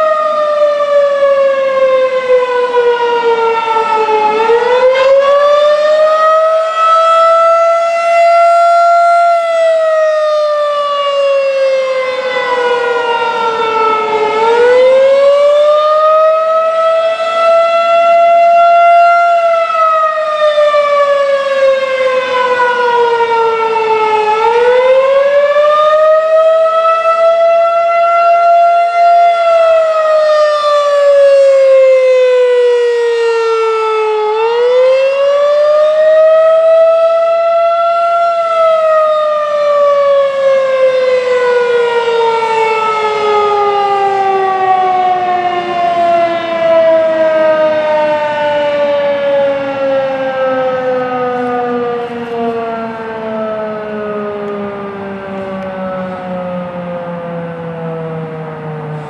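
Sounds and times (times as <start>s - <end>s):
wavering warning siren: 0.0s - 59.0s.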